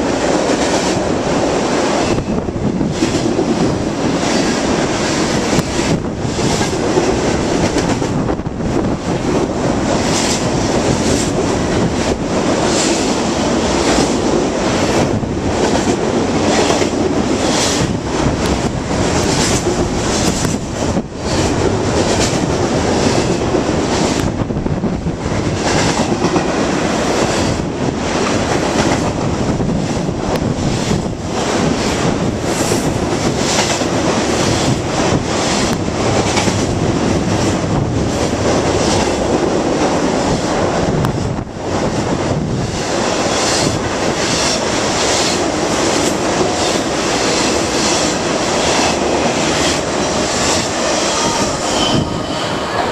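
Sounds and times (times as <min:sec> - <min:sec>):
freight train passing: 0:00.0 - 0:52.9
wheels clacking on rail: 0:00.0 - 0:52.9.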